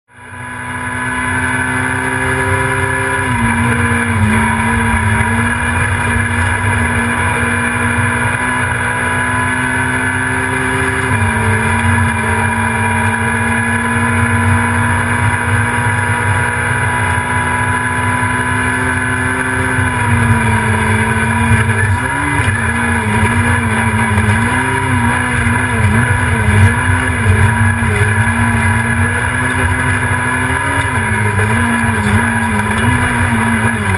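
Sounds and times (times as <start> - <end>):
rally car engine running hard: 0.1 - 33.9.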